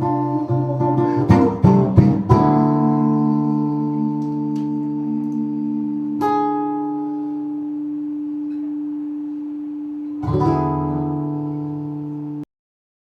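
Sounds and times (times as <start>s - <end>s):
acoustic guitar strummed chords: 0.0s - 12.4s.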